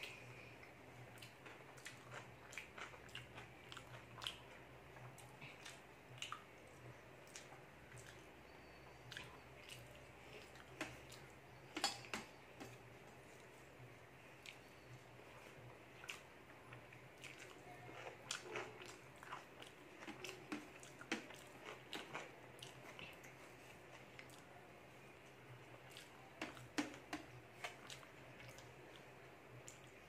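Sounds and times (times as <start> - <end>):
chewing with wet mouth clicks: 1.1 - 8.3, 9.0 - 13.5, 14.4 - 24.6, 25.2 - 30.0.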